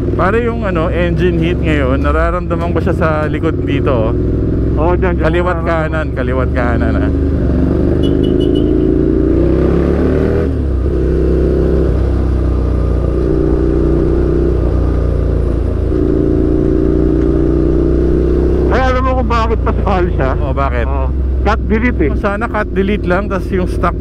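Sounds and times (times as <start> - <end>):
motorcycle engine while riding: 0.0 - 24.0.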